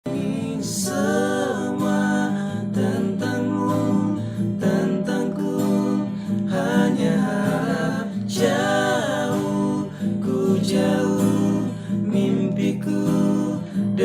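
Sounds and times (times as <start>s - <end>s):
person singing wordless melody: 0.0s - 14.0s
acoustic guitar music: 0.1s - 14.0s.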